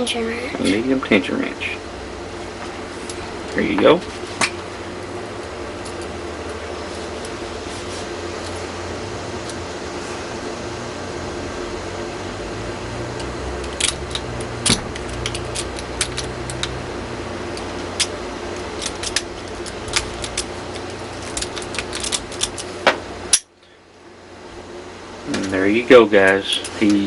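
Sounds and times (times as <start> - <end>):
fan hum: 0.0 - 27.0.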